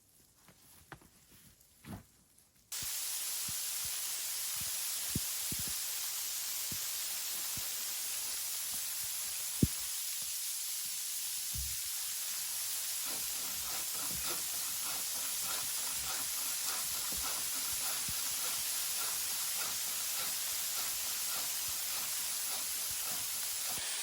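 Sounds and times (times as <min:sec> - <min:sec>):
steady hiss: 0:02.6 - 0:24.0.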